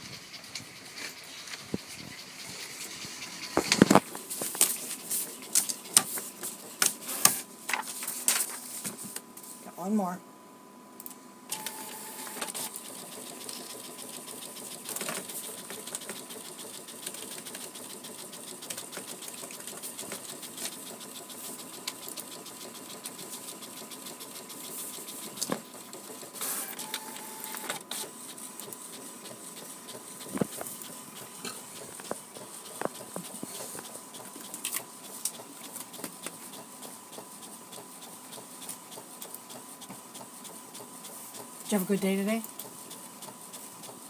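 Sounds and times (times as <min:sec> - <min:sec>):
printer mechanism chattering: 0:00.0 - 0:07.5, 0:11.5 - 0:44.0
paper feed clicks: 0:00.5 - 0:09.2, 0:11.5 - 0:44.0.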